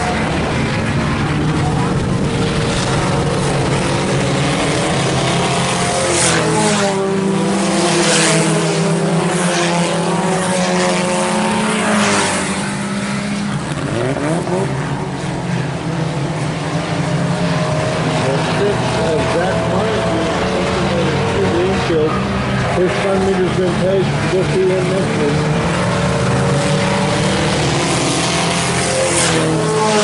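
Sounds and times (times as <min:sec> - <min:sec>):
cars passing by: 0:00.0 - 0:30.0
race car engines running hard: 0:00.0 - 0:30.0.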